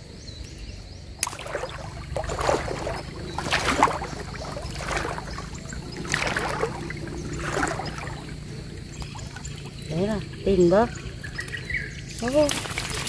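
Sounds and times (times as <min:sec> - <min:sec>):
water sloshing and splashing: 0:01.2 - 0:13.0.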